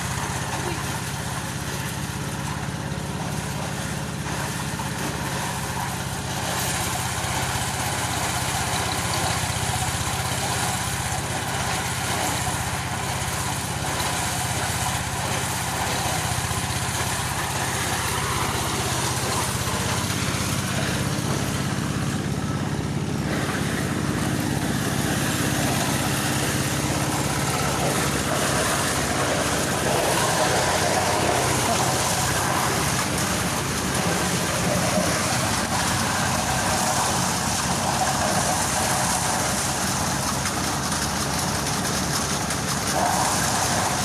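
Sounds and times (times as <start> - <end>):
corn thresher motor humming: 0.0 - 44.0.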